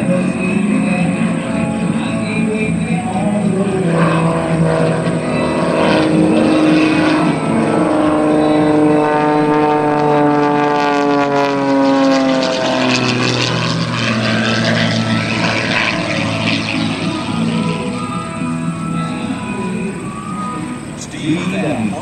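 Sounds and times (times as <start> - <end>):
plane piston engine and propeller: 0.0 - 22.0.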